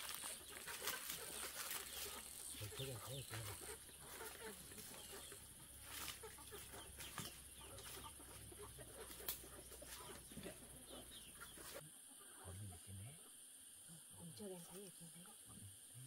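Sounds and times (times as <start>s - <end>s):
chickens clucking: 0.0s - 13.3s.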